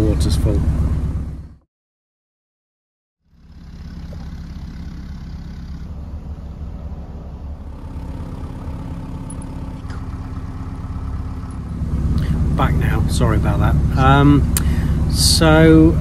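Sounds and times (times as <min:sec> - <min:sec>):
diesel engine idling: 0:00.0 - 0:01.6, 0:03.2 - 0:16.0.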